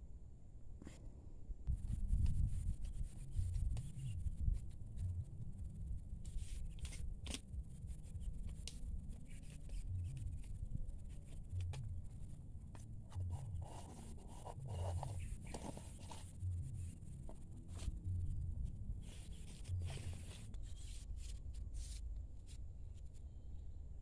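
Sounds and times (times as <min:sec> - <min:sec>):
low fluctuating rumble: 0:01.7 - 0:24.0.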